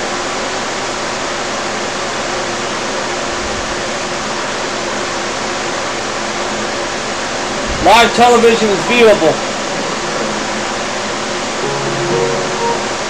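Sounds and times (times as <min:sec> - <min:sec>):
room noise hiss: 0:00.1 - 0:13.0.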